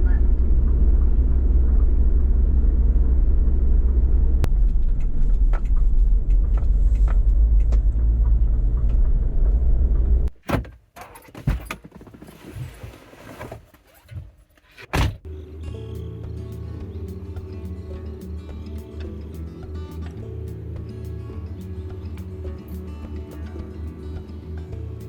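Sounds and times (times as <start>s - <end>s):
road rumble inside van: 0.0s - 25.0s.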